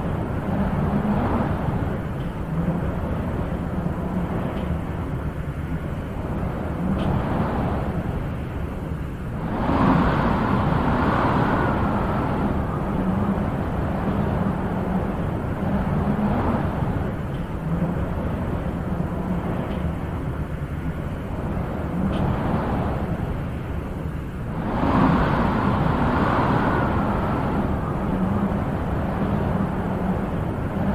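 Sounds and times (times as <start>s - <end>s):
wind blowing in gusts: 0.0s - 30.9s.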